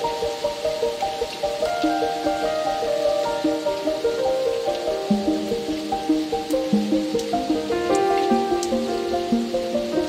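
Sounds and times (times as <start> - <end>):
rain hissing: 0.0 - 10.0
slow calm music: 0.0 - 10.0.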